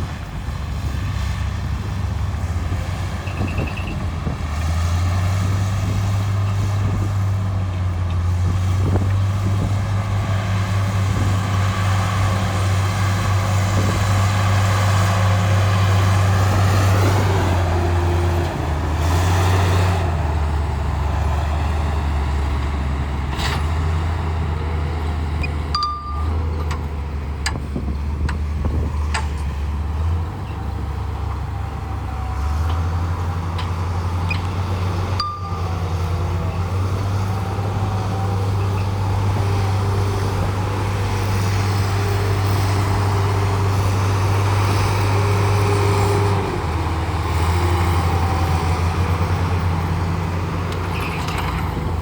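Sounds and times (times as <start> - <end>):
heavy diesel engine droning: 0.0 - 52.0.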